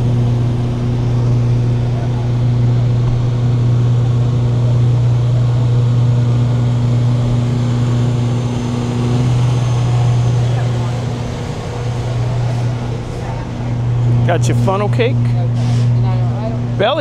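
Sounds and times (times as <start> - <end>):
higher tone: 0.0 - 17.0
low mechanical hum: 0.0 - 17.0.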